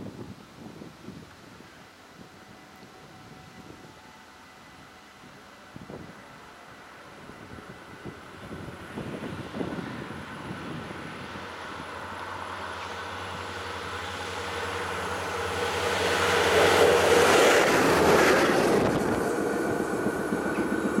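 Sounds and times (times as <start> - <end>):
railcar passing at speed: 1.3 - 21.0.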